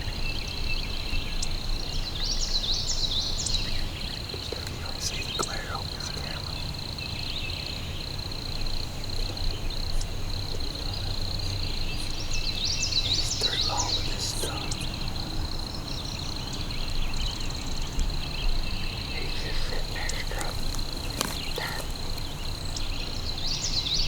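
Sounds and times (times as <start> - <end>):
bird chirps: 0.3 - 24.0.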